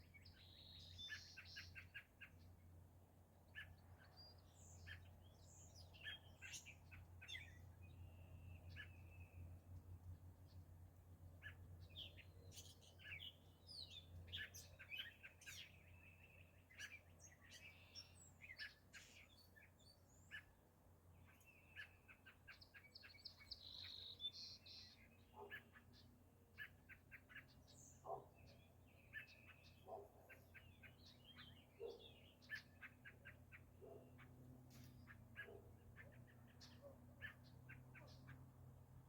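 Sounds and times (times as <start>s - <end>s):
small birds chirping and singing: 0.0s - 39.0s.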